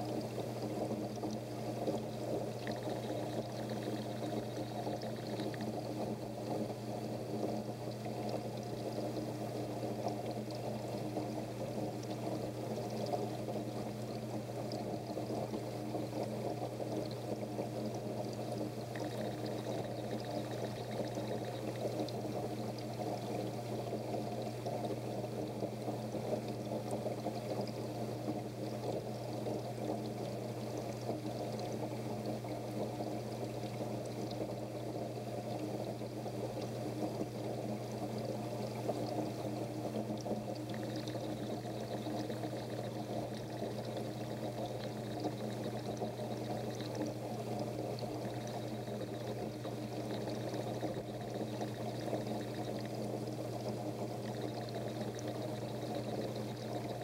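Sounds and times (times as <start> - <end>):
aquarium water rushing: 0.0 - 57.0
low steady hum: 0.0 - 57.0.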